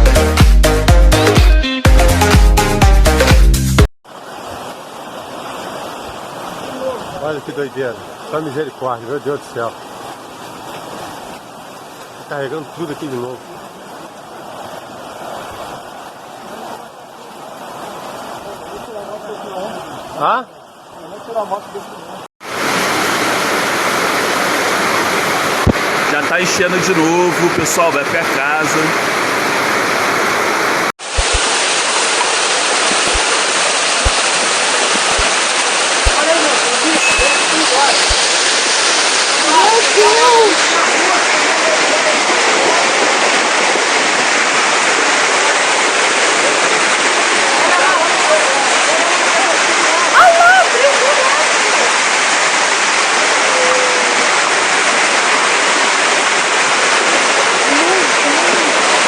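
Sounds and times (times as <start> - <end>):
floodwater roaring: 4.0 - 59.0.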